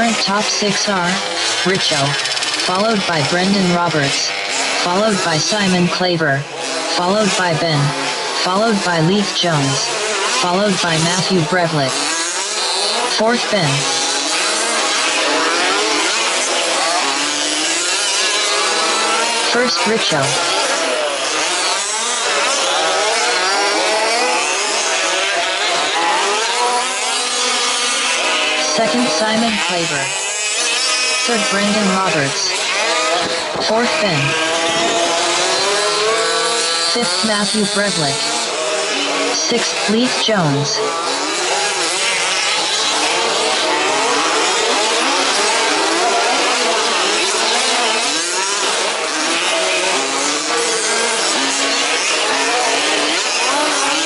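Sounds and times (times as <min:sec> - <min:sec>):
small two-stroke engines revving: 0:00.0 - 0:54.0.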